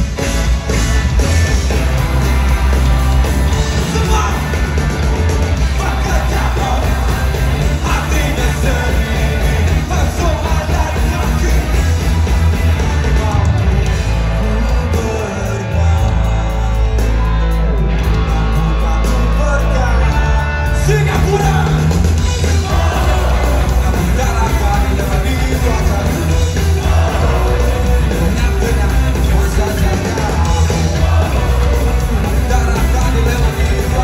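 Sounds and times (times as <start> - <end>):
bass guitar: 0.0 - 34.0
drums: 0.0 - 34.0
electric guitars: 0.0 - 34.0
person singing: 5.6 - 12.2, 12.8 - 21.9, 22.5 - 34.0.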